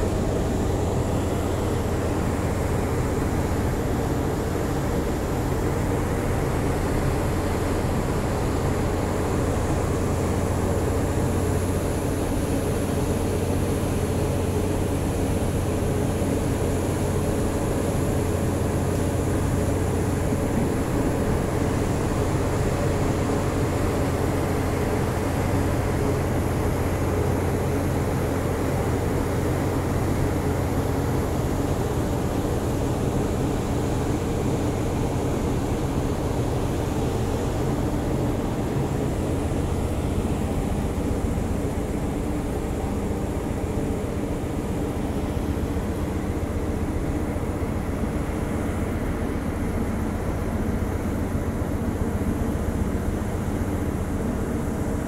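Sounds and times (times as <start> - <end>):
ship engine low drone: 0.0 - 55.0.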